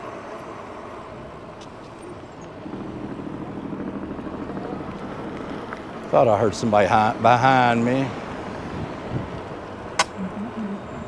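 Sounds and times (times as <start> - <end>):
e-bike ride noise: 0.0 - 11.0
vehicle engine running: 0.0 - 11.0.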